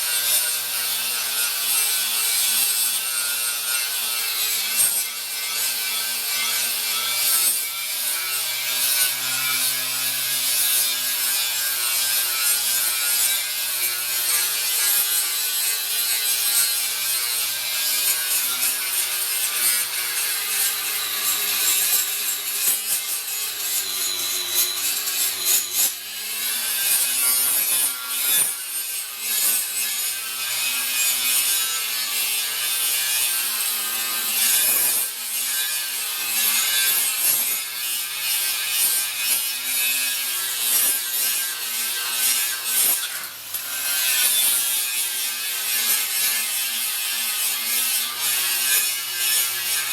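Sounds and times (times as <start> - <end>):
power grinder grinding steel: 0.0 - 49.9.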